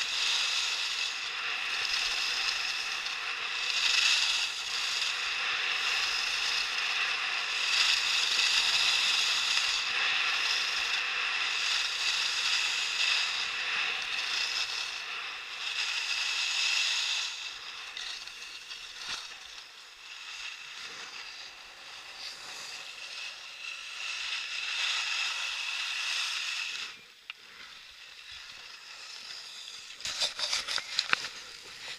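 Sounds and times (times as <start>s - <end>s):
skis scraping over snow: 0.0s - 19.6s, 20.3s - 31.9s.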